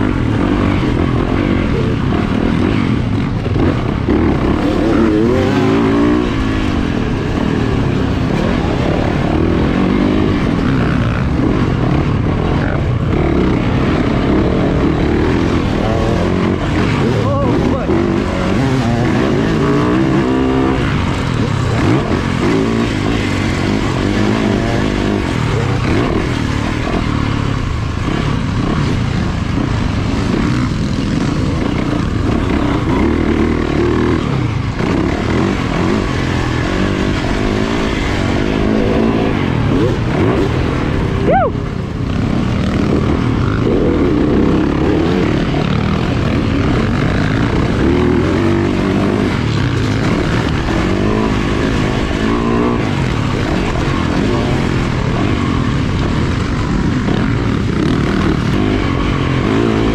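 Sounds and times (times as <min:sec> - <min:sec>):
two-stroke dirt bike engine revving: 0:00.0 - 0:59.9.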